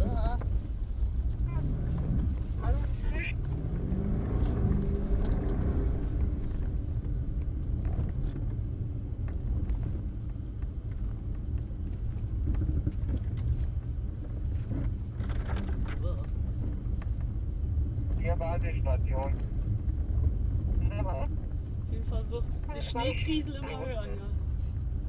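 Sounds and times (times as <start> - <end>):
car engine and tyres on snow: 0.0 - 25.0.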